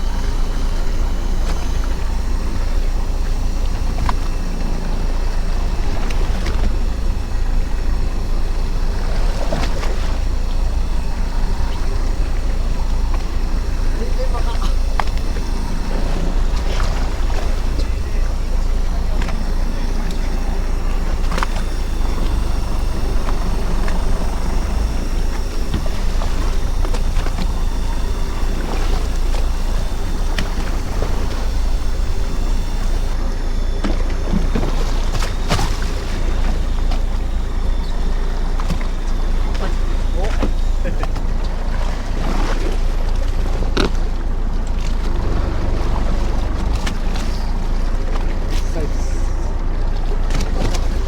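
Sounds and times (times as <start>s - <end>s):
boat engine rumble: 0.0s - 51.0s
water noise: 0.0s - 51.0s
wind: 0.0s - 51.0s.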